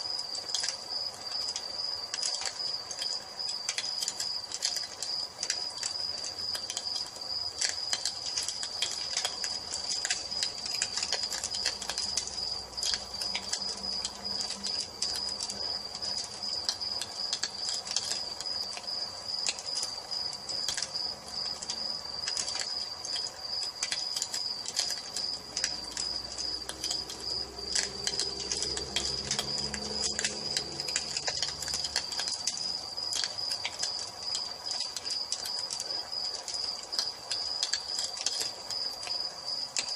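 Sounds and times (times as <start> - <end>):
crickets trilling: 0.0 - 39.9
wood fire crackling and popping: 0.0 - 39.9.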